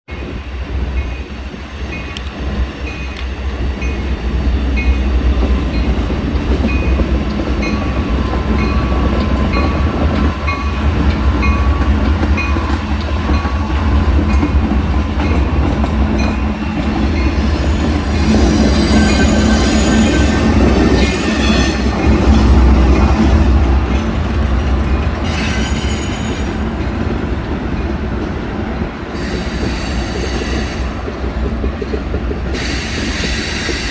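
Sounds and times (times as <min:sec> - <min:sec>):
freight train rumbling past: 0:00.1 - 0:33.9.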